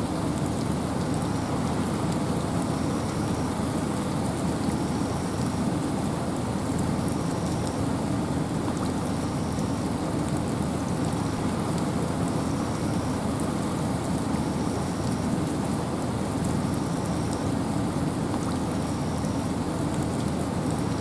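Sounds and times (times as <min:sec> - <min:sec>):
rain falling: 0:00.0 - 0:21.0
wind: 0:00.0 - 0:21.0.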